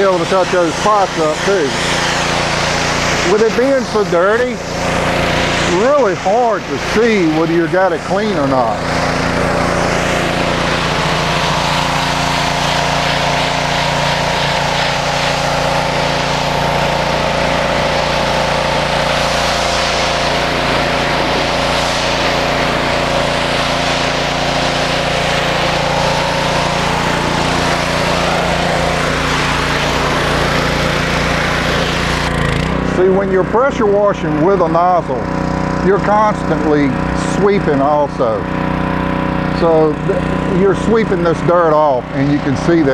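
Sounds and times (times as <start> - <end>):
pressure washer engine running: 0.0 - 42.9
water spray hissing on concrete: 0.0 - 42.9.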